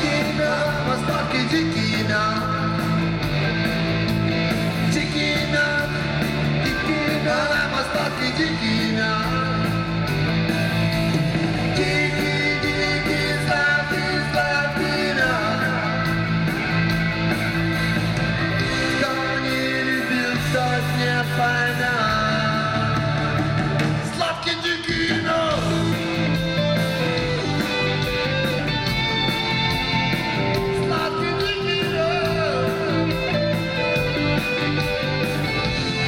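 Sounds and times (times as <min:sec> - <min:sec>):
bass guitar: 0:00.0 - 0:36.0
electric guitar: 0:00.0 - 0:36.0.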